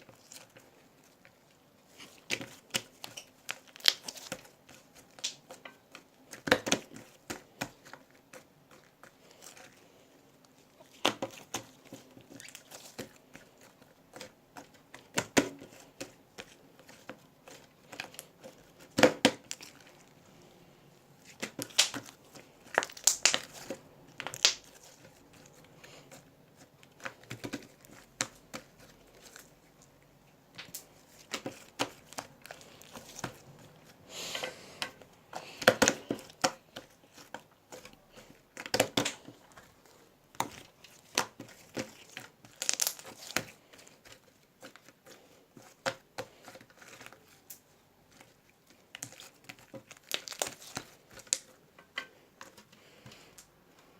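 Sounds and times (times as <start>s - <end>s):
crinkling and rustling handling: 0.0s - 53.9s.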